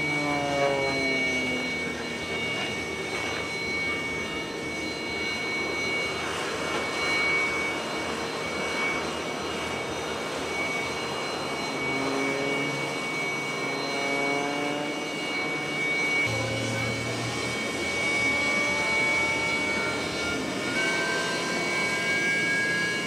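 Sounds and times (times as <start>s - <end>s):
jet engines rushing with turbine whine: 0.0s - 23.0s
rising tones: 0.0s - 23.0s.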